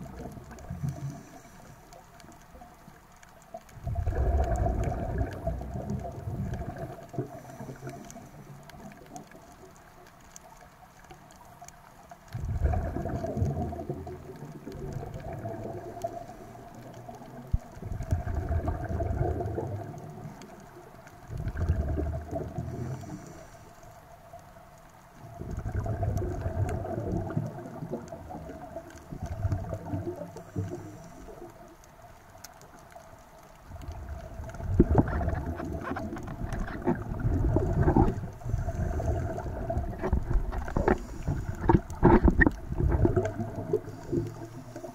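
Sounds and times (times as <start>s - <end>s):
underwater exhaled bubbles gurgling: 0.0s - 44.9s.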